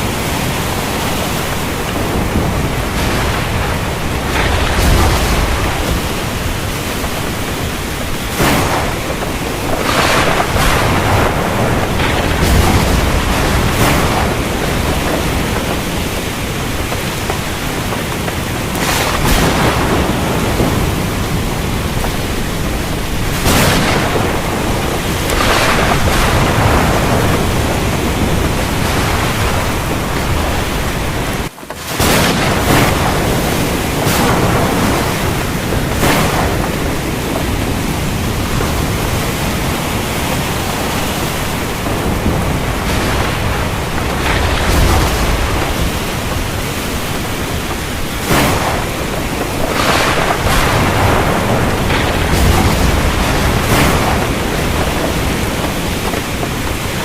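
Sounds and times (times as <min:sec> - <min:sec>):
heavy rain falling: 0:00.0 - 0:57.0
thunder cracks and rumbles: 0:00.0 - 0:57.0.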